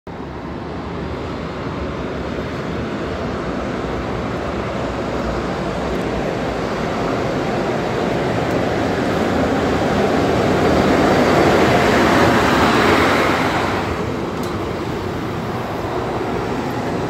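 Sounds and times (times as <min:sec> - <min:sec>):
train wheels rumbling: 0:00.1 - 0:17.0.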